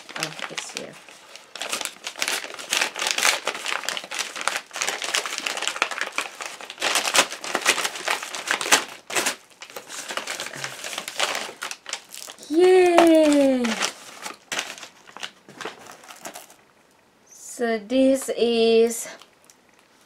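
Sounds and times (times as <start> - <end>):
paper envelope crinkling and tearing: 0.0 - 16.6.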